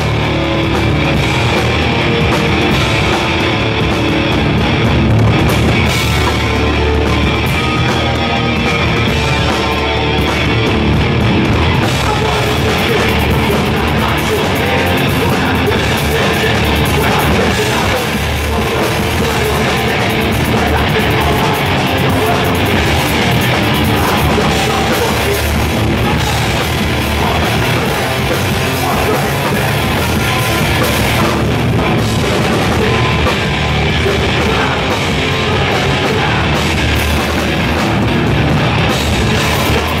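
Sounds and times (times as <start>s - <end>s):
drum kit: 0.0s - 40.0s
electric guitar: 0.0s - 40.0s.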